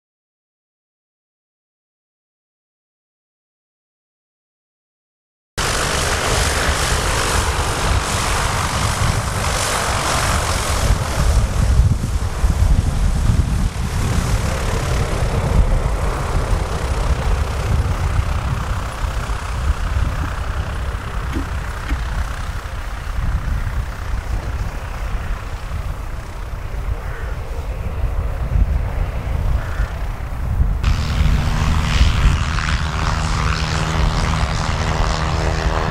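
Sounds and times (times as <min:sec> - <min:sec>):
light aircraft engine droning: 0:05.6 - 0:35.9.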